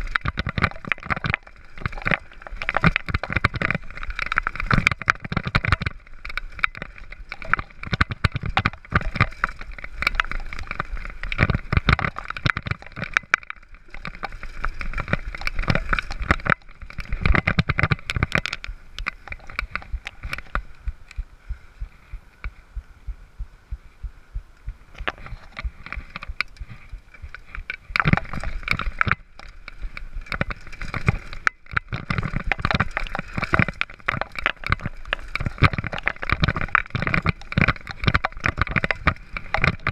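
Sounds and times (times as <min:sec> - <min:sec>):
bike rattling over bumps: 0:00.0 - 0:21.3, 0:25.0 - 0:39.9.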